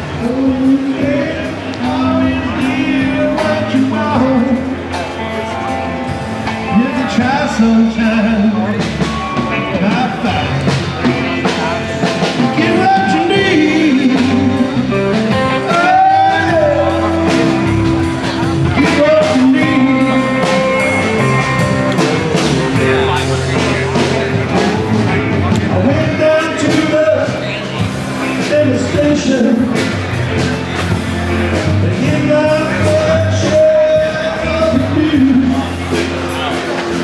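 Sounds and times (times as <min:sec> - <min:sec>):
rock song with guitar and vocal: 0:00.0 - 0:37.0.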